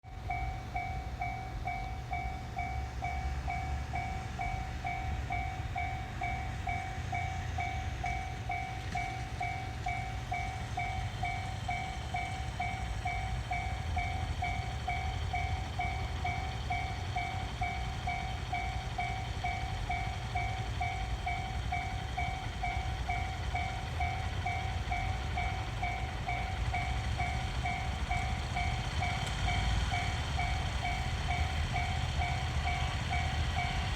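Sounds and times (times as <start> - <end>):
railroad crossing bell ringing: 0.0 - 33.9
steady low rumble: 0.1 - 33.9.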